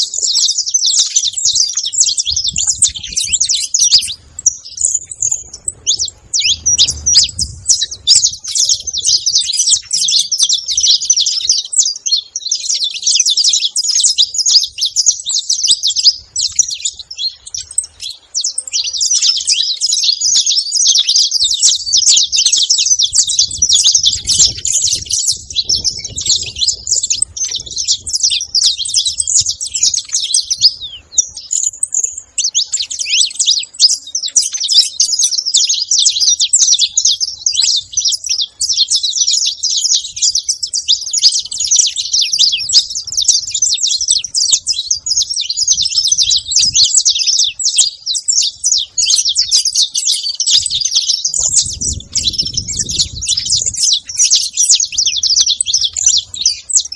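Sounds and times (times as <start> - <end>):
finch singing rapid chirps and trills: 0.0 - 56.9.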